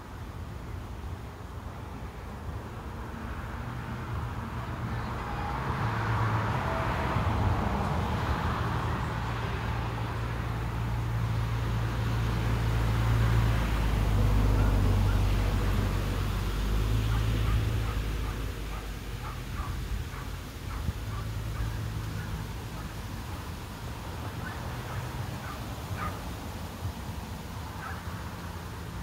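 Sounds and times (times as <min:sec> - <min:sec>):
vehicle traffic engine hum: 0:00.0 - 0:29.0.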